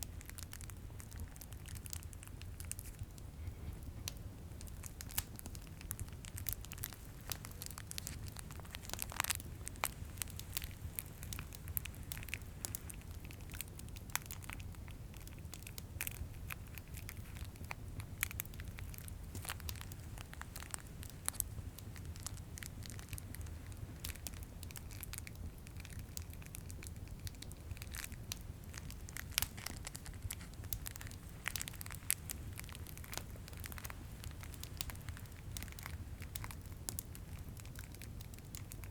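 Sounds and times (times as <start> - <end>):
fireplace crackling: 0.0 - 38.9
plastic wrapping crinkling: 4.6 - 38.9.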